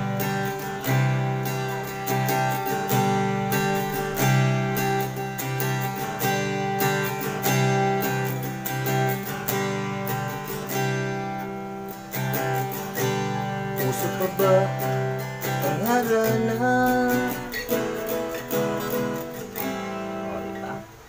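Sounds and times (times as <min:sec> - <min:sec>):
acoustic guitar chords strummed: 0:00.0 - 0:21.0.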